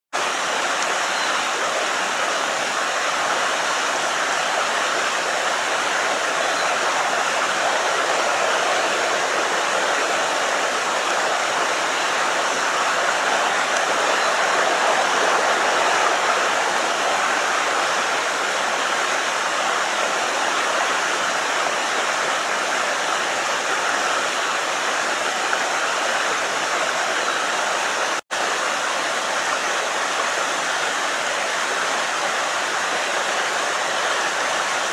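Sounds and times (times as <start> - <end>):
creek water rushing: 0.1 - 34.9.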